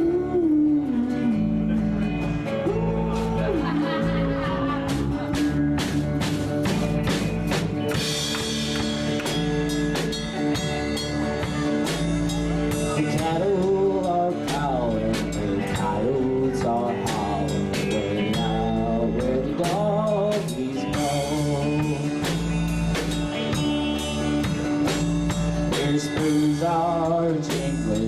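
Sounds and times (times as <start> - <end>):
country band playing: 0.0 - 28.0.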